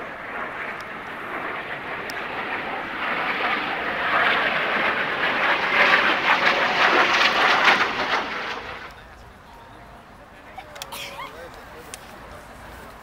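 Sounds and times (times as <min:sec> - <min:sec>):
jet aircraft flying overhead: 0:00.0 - 0:13.0.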